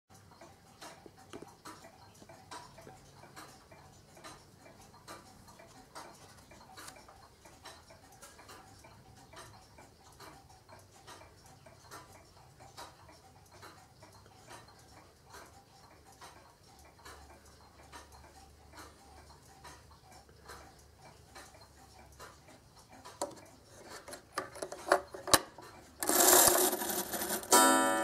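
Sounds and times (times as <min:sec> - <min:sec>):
clocks ticking faintly: 0:00.1 - 0:28.0.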